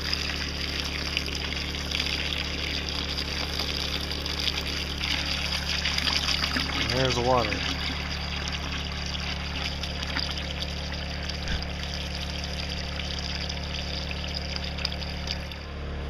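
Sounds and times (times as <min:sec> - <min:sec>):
water pouring into a bucket: 0:00.0 - 0:15.8
generator humming: 0:00.0 - 0:16.0.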